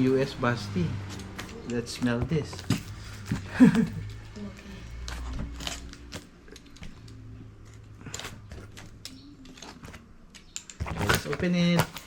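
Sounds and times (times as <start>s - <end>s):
packaging clicks and rustles: 1.0s - 12.0s.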